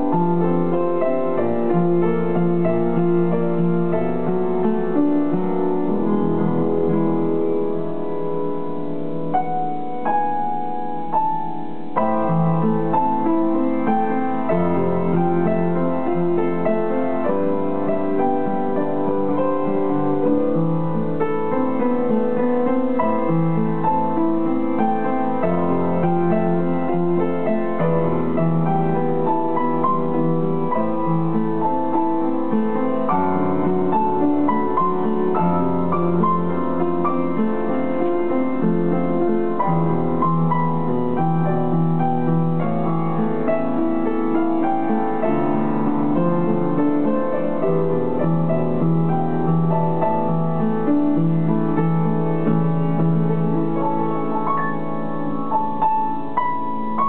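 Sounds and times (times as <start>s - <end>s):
upright piano melody: 0.0s - 57.0s.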